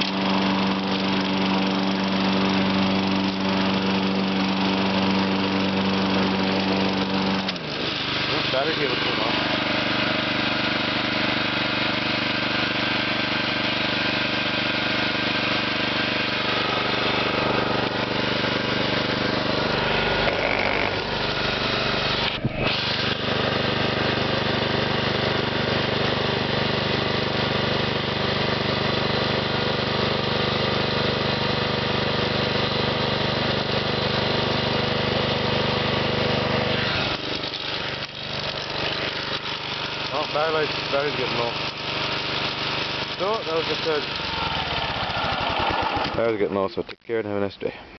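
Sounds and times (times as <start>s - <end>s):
riding mower engine running: 0.0s - 46.7s.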